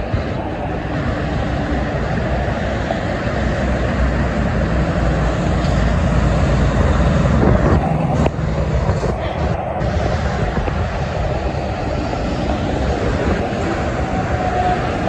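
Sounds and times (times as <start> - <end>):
highway traffic rumble: 0.0 - 15.0.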